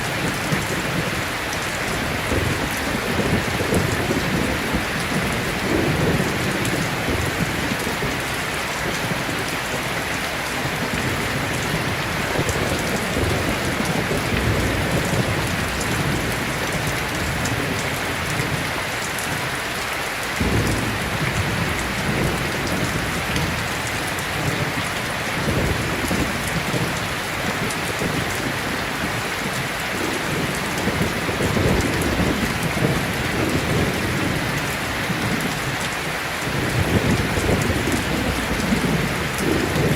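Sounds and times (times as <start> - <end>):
rolling thunder rumbles: 0.0 - 19.3, 20.4 - 39.9
steady rain falling: 0.0 - 39.9.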